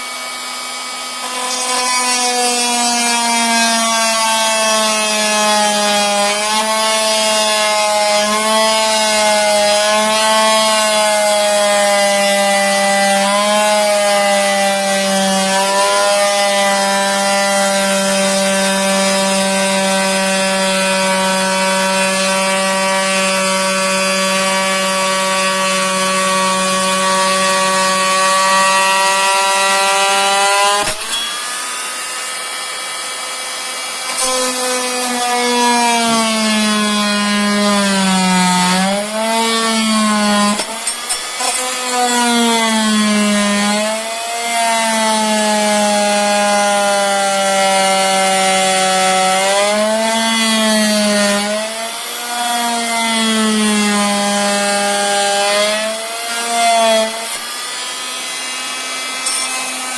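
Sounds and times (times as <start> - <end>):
power saw cutting flooring: 0.0 - 59.9.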